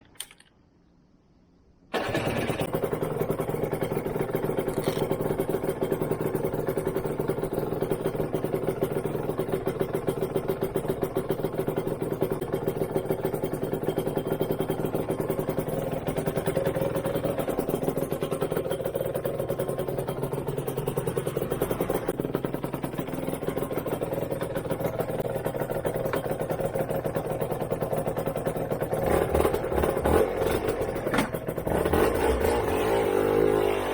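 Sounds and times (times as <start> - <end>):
two-stroke motorcycle engine idling: 1.9 - 33.9.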